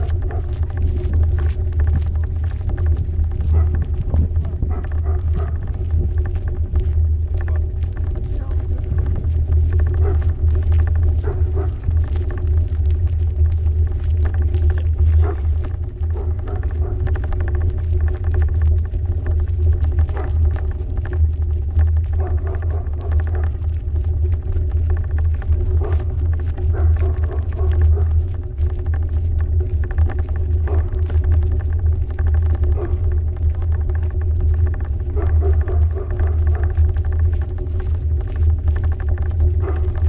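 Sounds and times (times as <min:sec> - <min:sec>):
bike riding rumble: 0:00.0 - 0:40.0
small rattles and knocks: 0:00.0 - 0:40.0.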